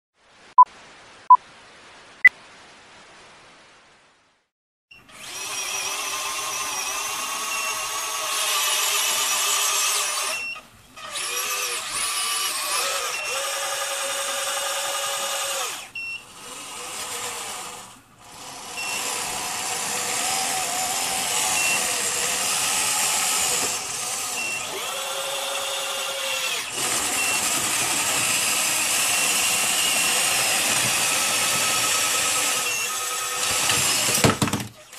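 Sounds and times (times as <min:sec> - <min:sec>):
toy bulldozer motors whining: 0:05.0 - 0:34.9.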